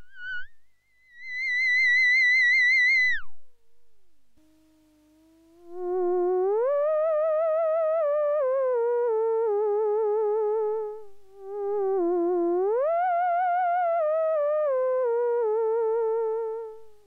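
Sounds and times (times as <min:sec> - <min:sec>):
theremin gliding with vibrato: 0:00.0 - 0:03.4, 0:05.3 - 0:17.0.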